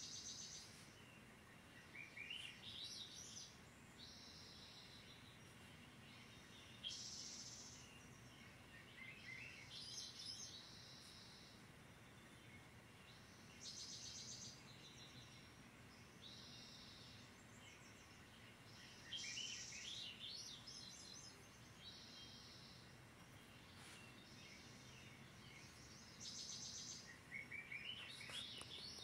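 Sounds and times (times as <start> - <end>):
faint birdsong through speakers: 0.0 - 29.0.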